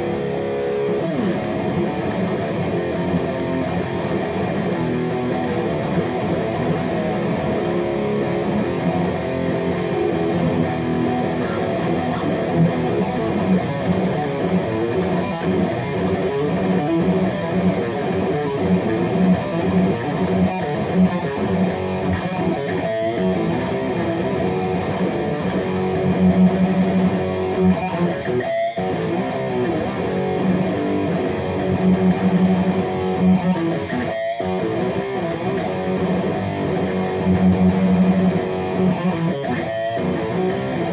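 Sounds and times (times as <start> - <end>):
overdriven electric guitar riffing: 0.0 - 40.9.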